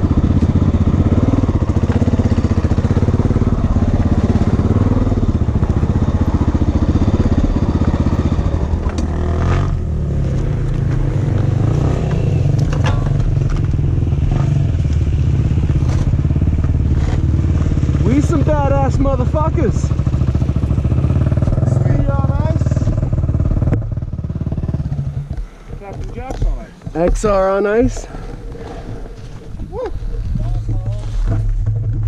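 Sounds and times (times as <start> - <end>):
dirt bike engine: 0.0 - 32.0.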